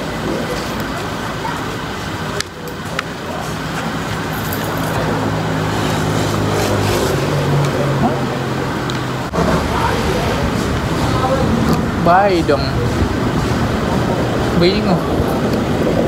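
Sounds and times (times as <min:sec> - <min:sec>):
road traffic: 0:00.0 - 0:16.0
vehicle engine hum: 0:00.0 - 0:16.0.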